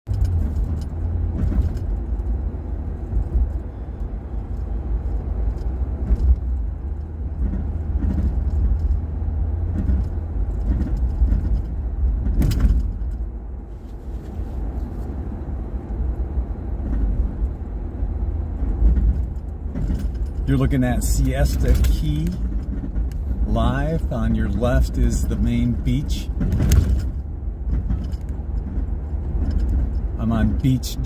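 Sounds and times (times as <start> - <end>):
car road noise rumble: 0.0 - 31.0.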